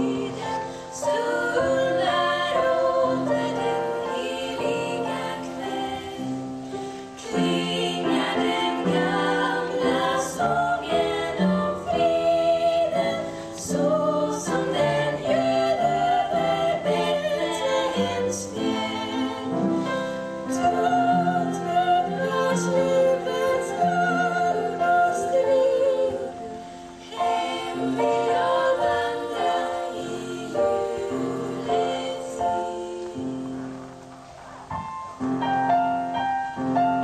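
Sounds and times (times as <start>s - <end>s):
young women singing together: 0.0s - 33.9s.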